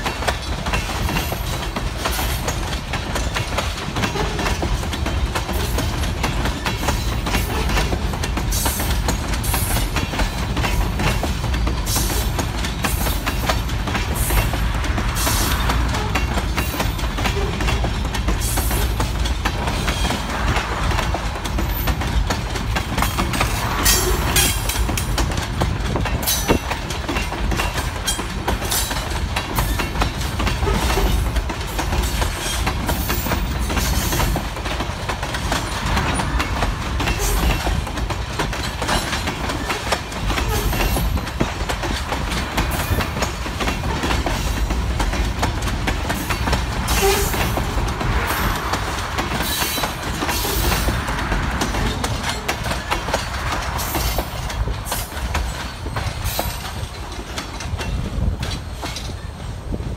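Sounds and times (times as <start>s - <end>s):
steel wheels rumbling on rails: 0.0s - 59.9s
train cars clicking and rattling: 0.0s - 59.9s.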